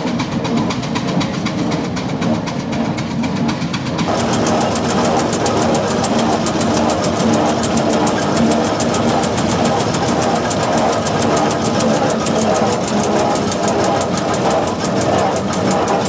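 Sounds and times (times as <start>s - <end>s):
steam engine beating and clattering: 0.0s - 16.0s.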